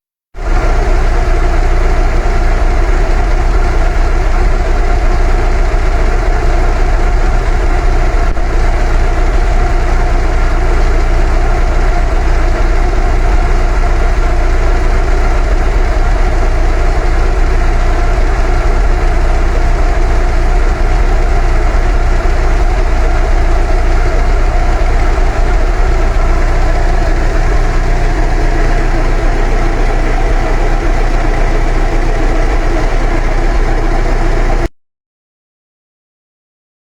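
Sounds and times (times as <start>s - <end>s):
car engine idling: 0.4s - 34.7s.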